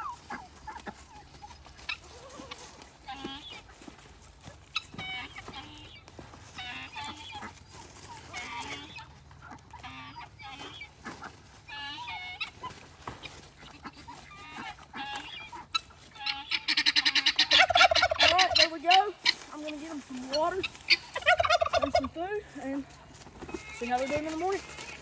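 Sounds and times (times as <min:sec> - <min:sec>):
poultry clucking: 0:00.0 - 0:25.0.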